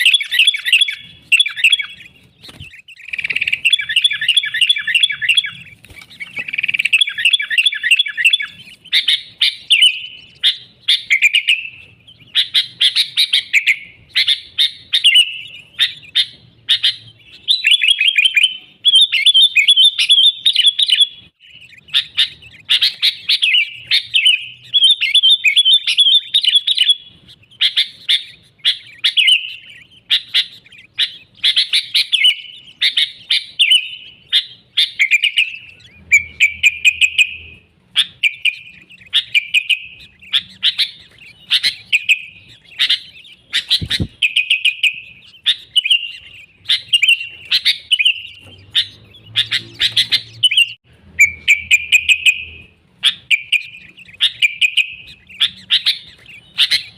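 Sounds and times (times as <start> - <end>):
bird singing chattering notes: 0.0 - 56.9.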